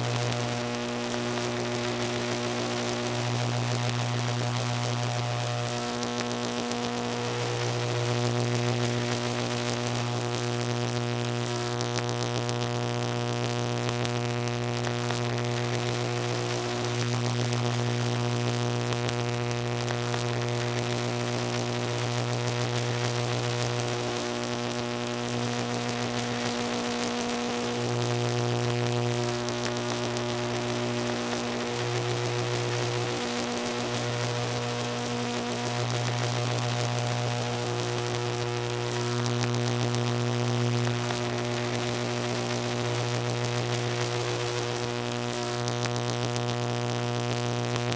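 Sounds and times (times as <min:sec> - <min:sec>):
electrical buzz: 0:00.0 - 0:47.9.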